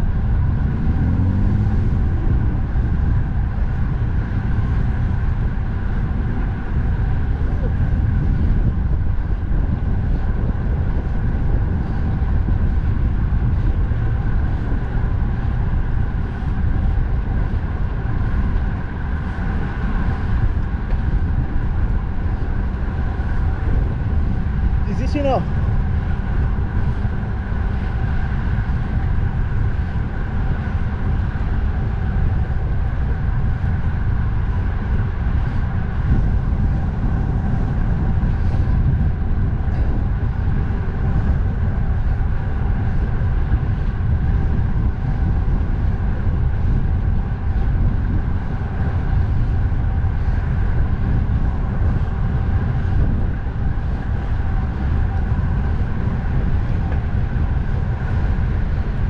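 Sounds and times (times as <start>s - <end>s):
road and traffic noise: 0.0s - 59.0s
wind rumble on microphone: 0.0s - 59.0s.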